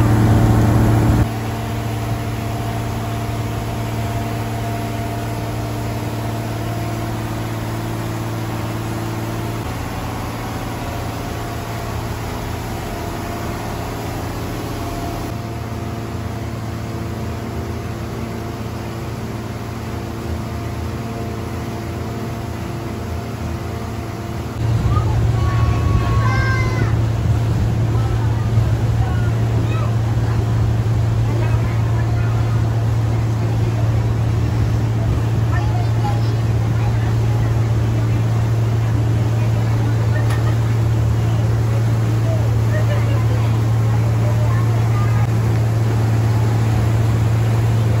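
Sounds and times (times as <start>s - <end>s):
boat engine droning: 0.0s - 48.0s.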